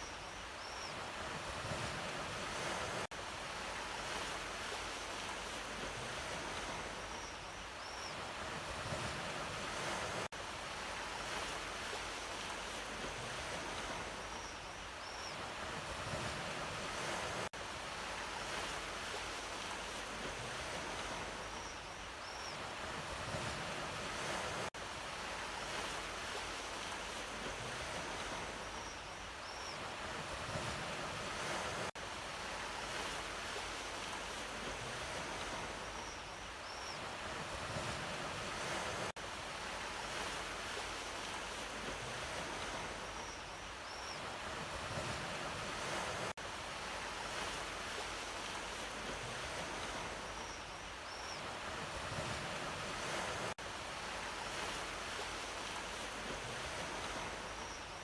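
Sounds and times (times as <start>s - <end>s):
ocean waves washing onto shore: 0.9s - 58.0s.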